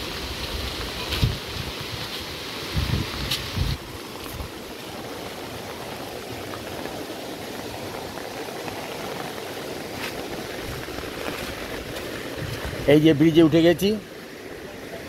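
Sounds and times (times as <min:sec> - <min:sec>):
stream cascading over boulders: 0:00.0 - 0:15.0
waterfall rushing: 0:00.0 - 0:15.0.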